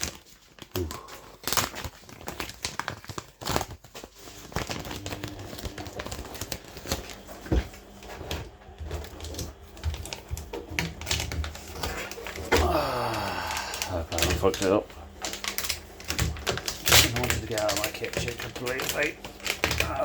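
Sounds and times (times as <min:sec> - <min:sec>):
crinkling: 0:00.0 - 0:20.0.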